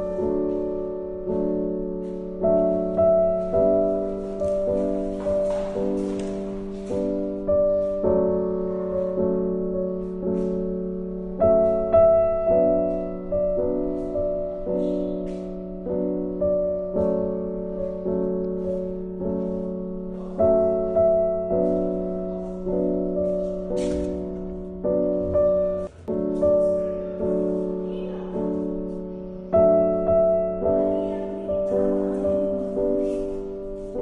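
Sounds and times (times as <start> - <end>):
piano playing slow chords: 0.0 - 34.0.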